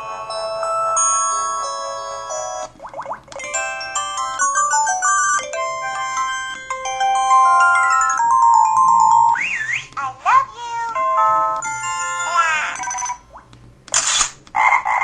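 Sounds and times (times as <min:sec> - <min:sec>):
polyphonic phone ringtone: 0:00.0 - 0:09.9, 0:10.9 - 0:13.2.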